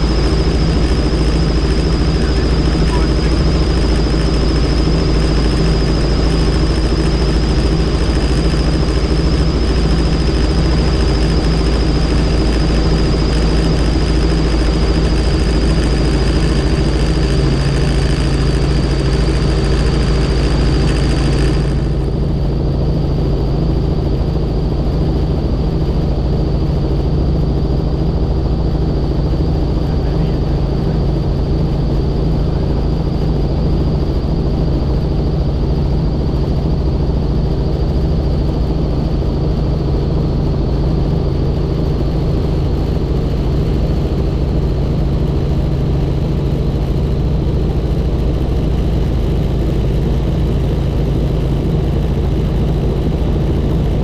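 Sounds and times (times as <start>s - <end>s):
helicopter engine and rotor noise: 0.0s - 54.0s
high turbine whine: 0.0s - 54.0s.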